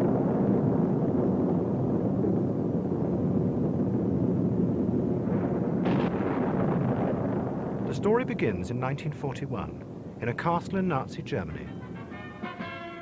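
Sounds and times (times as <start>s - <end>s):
loud steady rumbling: 0.0s - 13.0s.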